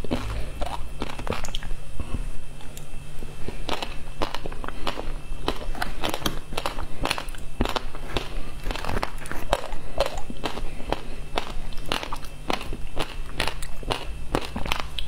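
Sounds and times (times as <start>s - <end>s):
crunching of ice being chewed: 0.0s - 1.7s, 3.4s - 15.0s.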